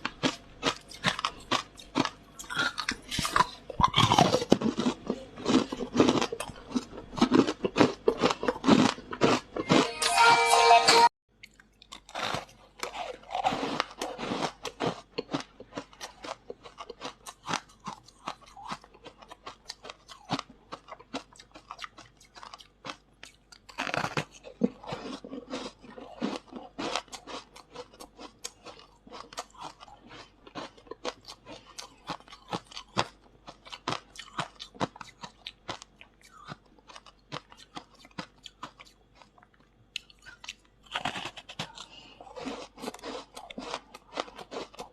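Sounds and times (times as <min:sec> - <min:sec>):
chewing crunchy ice: 0:00.0 - 0:09.9, 0:11.3 - 0:44.9.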